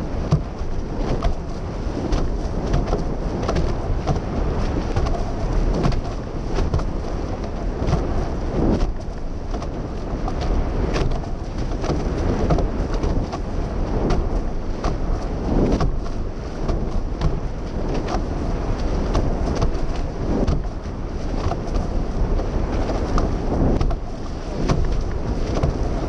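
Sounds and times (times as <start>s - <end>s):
rushing water and spray: 0.0s - 26.0s
waves slapping: 0.0s - 26.0s
wind buffeting microphone: 0.0s - 26.0s.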